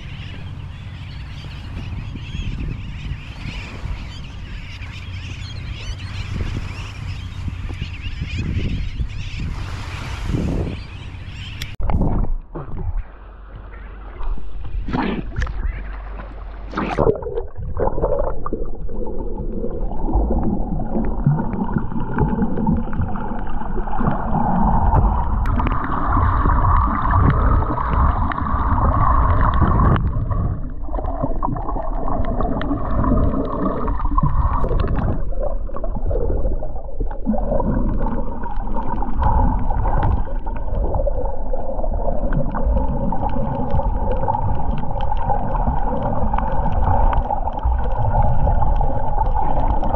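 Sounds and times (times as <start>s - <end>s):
muffled water sloshing and gurgling: 0.0s - 49.9s.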